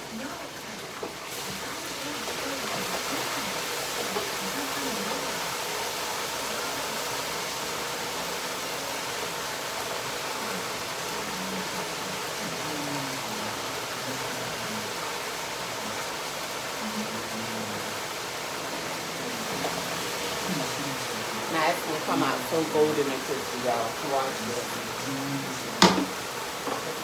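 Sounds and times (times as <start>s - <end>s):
chicken frying in hot oil: 0.0s - 27.0s.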